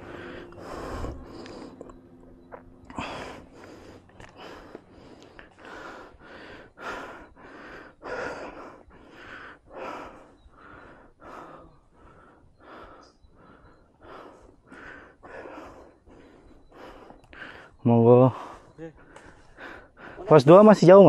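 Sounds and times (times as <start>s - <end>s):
person panting hard: 0.0s - 1.8s, 3.0s - 20.4s.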